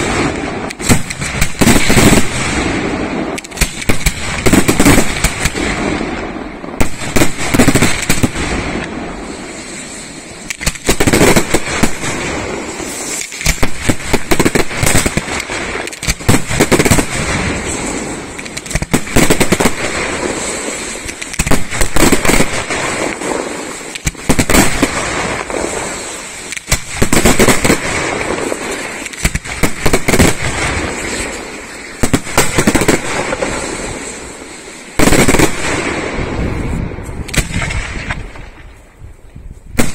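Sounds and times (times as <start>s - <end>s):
firework shells bursting: 0.0s - 38.8s
firework crackling: 0.0s - 39.9s.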